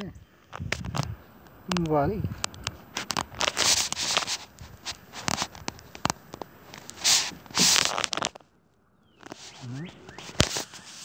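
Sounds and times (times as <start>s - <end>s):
scattered clicks: 0.0s - 8.5s, 9.2s - 11.0s
fur rustling against phone: 0.5s - 8.4s, 9.2s - 11.0s.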